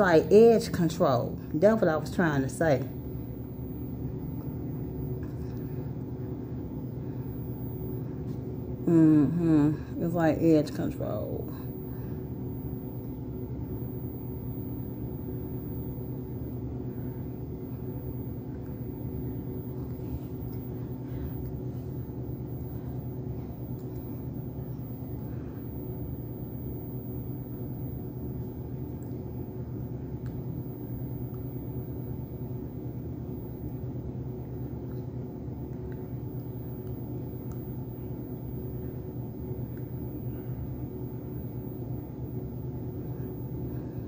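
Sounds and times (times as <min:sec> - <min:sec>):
low machine hum: 0:00.0 - 0:44.0.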